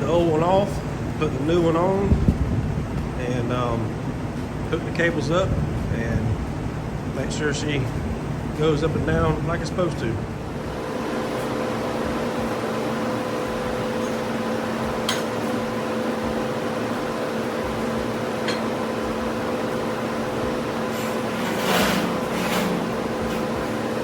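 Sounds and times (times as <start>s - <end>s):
mechanical hum with whine: 0.0s - 24.0s.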